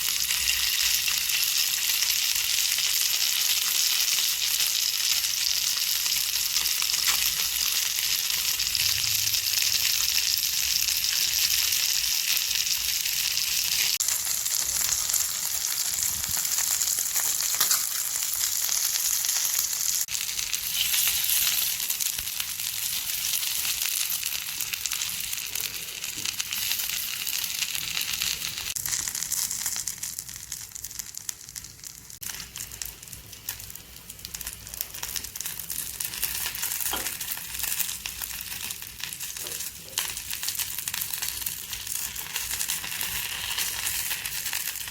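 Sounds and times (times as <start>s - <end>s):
chicken sizzling on a grill pan: 0.0s - 44.9s.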